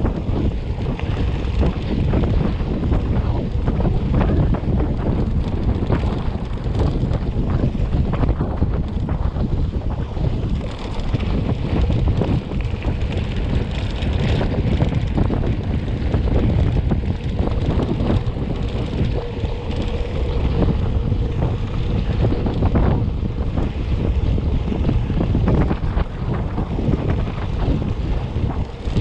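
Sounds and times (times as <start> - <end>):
bike rattling on dirt road: 0.0 - 29.0
wind buffeting microphone: 0.0 - 29.0.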